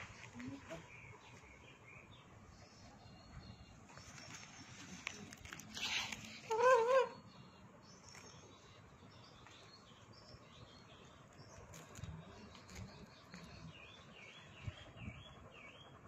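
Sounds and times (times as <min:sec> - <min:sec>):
faint high bird chirps: 0:00.0 - 0:16.0.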